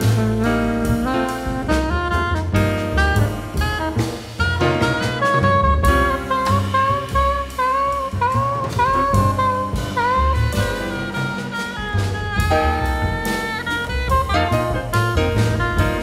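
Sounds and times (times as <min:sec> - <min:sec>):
bass line: 0:00.0 - 0:16.0
drum kit: 0:00.0 - 0:16.0
soprano saxophone jazz solo: 0:00.0 - 0:16.0.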